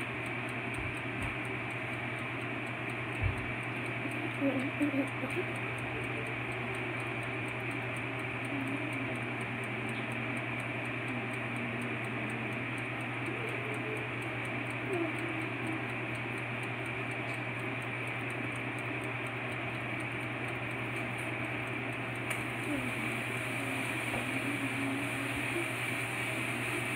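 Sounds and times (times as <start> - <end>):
timer ticking: 0.0 - 26.9
toaster oven hum and hiss: 0.0 - 26.9.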